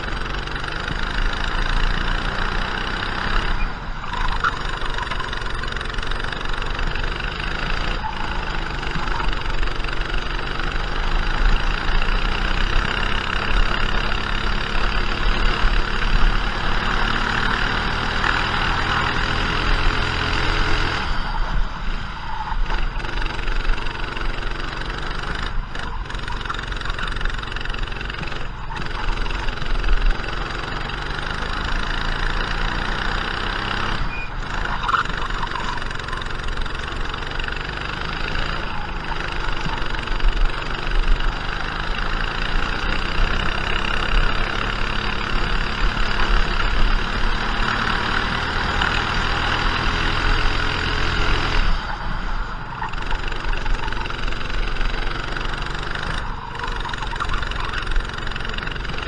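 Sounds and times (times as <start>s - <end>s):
kart engine at full throttle: 0.0s - 59.0s.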